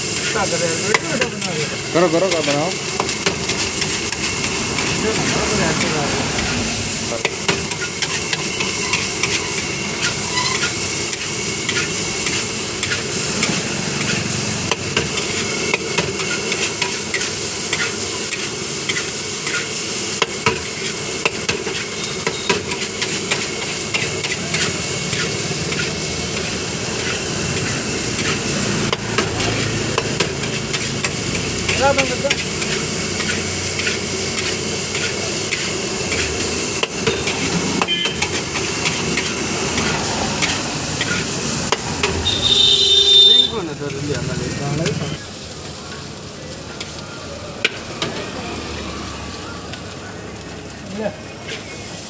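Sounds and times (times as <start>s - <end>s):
metal spatula scraping a wok: 0.0s - 43.3s
rice sizzling in a wok: 0.0s - 52.0s.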